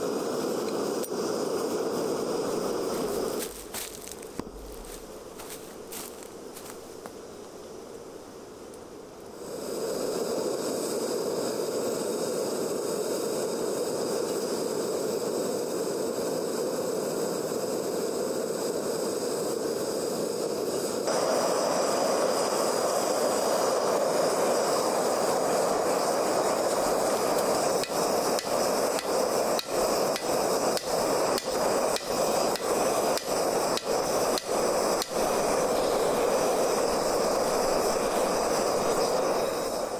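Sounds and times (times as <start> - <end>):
gas torch rushing: 0.0 - 7.6, 8.6 - 39.9.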